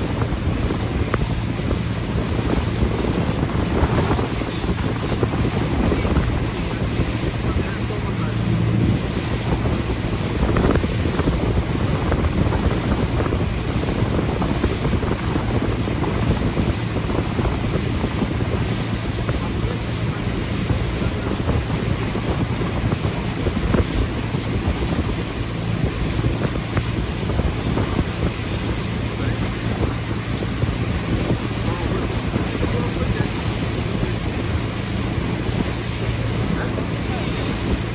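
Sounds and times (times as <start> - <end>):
motorboat engine humming: 0.0 - 37.9
water rushing along hull: 0.0 - 37.9
wind buffeting microphone: 0.0 - 37.9.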